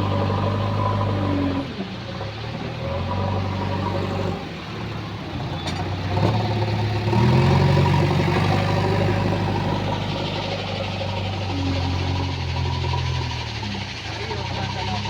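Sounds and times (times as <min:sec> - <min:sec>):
diesel engine revving: 0:00.0 - 0:15.0.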